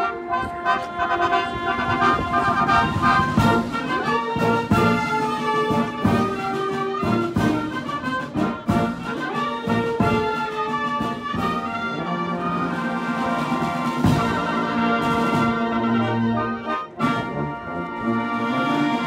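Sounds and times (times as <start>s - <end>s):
military band playing a fanfare: 0.0s - 19.0s.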